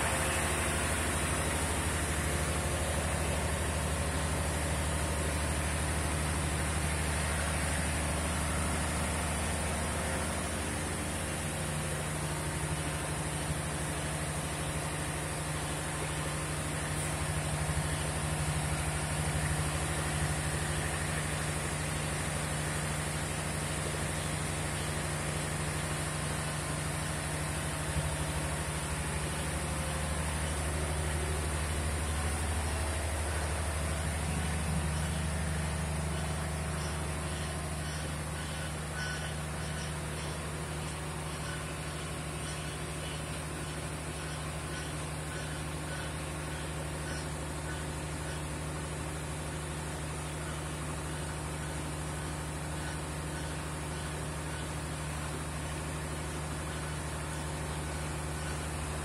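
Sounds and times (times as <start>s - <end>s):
crushing mill machine hum: 0.0s - 59.0s.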